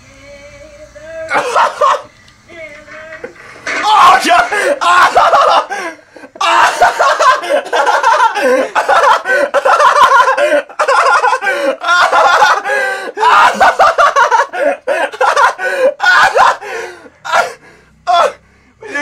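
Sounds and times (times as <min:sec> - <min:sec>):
man laughing hard: 0:01.3 - 0:02.1, 0:04.0 - 0:19.0.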